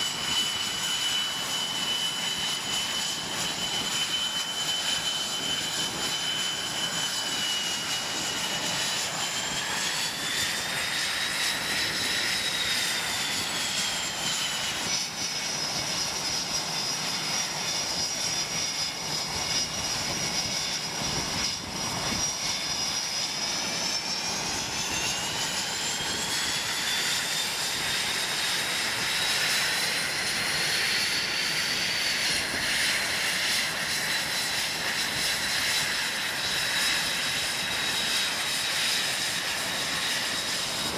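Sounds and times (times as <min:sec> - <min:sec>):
high-pitched turbine whine: 0:00.0 - 0:40.9
jet engines running: 0:00.0 - 0:40.9.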